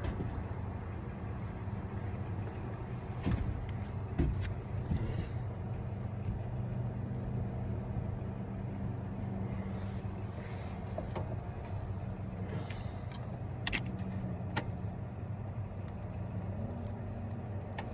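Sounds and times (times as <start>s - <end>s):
vehicle engine idling: 0.0s - 17.9s.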